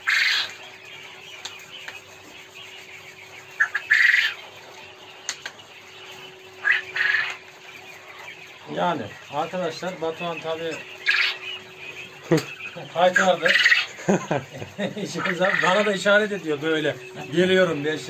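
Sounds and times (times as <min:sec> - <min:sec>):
quail harsh buzzy calls: 0:00.0 - 0:18.0.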